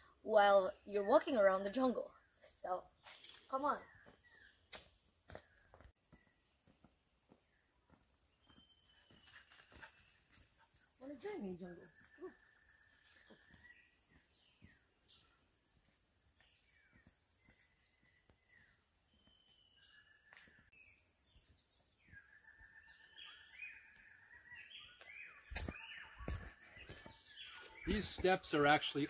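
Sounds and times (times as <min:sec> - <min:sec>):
birds chirping and whistling: 0:00.0 - 0:07.0, 0:07.7 - 0:29.0.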